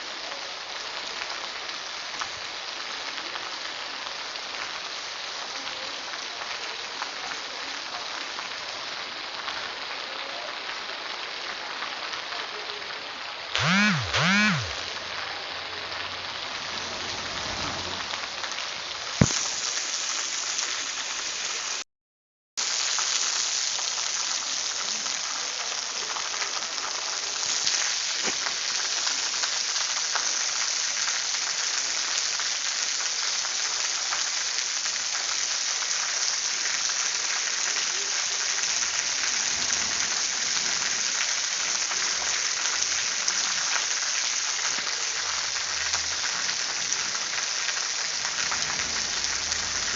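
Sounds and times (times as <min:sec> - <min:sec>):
steady rain falling: 0:00.0 - 0:21.8, 0:22.6 - 0:49.9.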